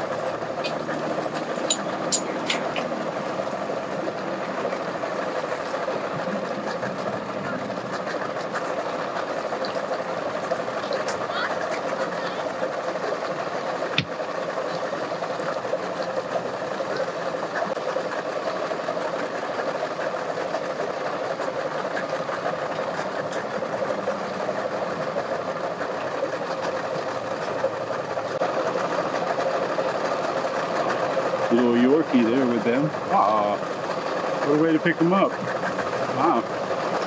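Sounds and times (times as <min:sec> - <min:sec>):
outboard motors idling: 0:00.0 - 0:37.0.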